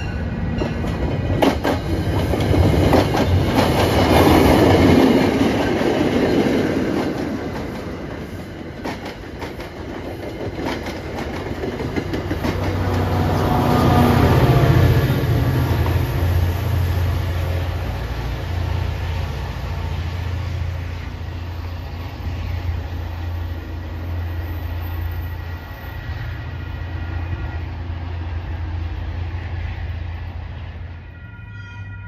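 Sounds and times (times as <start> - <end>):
diesel locomotive engine drone: 0.0 - 32.0
train rail noise: 0.0 - 32.0.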